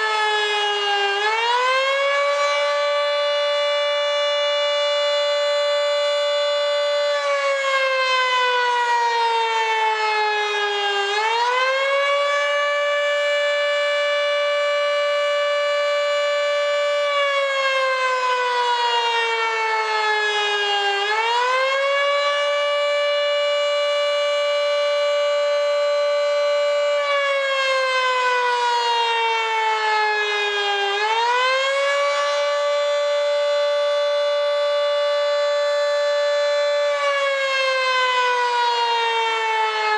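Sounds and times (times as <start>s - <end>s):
dual-tone warning siren: 0.0s - 39.9s.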